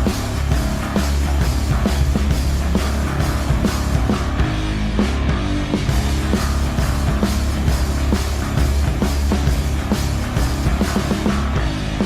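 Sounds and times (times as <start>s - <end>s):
distorted guitar: 0.0s - 12.0s
driving drum beat: 0.0s - 12.0s.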